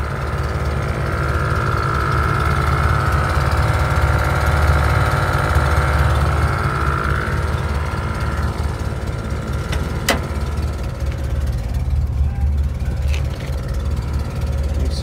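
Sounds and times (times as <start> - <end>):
engine idling with low rumble: 0.0 - 15.0.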